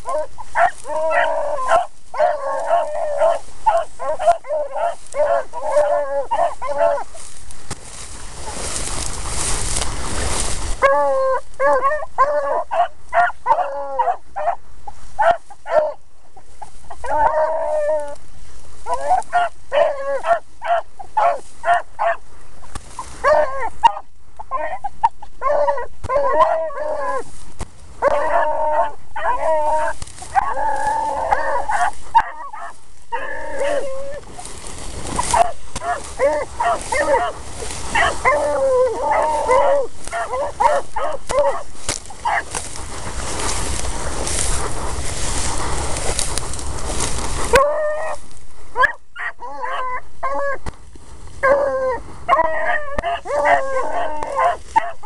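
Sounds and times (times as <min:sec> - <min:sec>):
dogs baying: 0:00.0 - 0:07.2, 0:10.3 - 0:14.6, 0:15.2 - 0:16.0, 0:16.6 - 0:18.2, 0:18.8 - 0:22.2, 0:23.0 - 0:27.3, 0:28.0 - 0:48.2, 0:48.8 - 0:50.7, 0:51.4 - 0:55.0
rustle of dry tall grass: 0:00.0 - 0:55.0.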